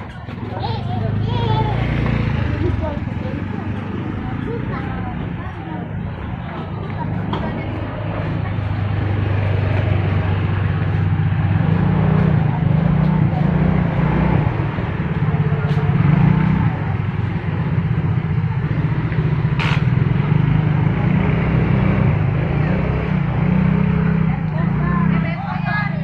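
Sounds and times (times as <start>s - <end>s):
outdoor market noise: 0.0s - 26.0s.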